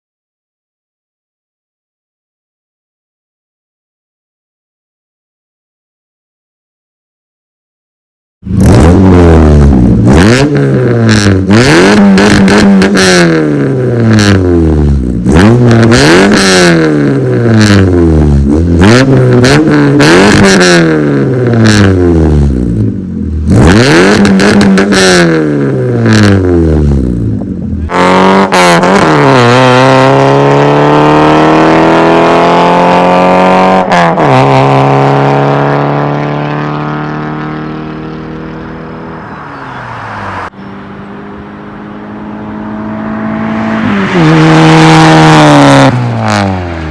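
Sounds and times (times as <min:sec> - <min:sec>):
car engine revving: 0:08.4 - 0:46.9.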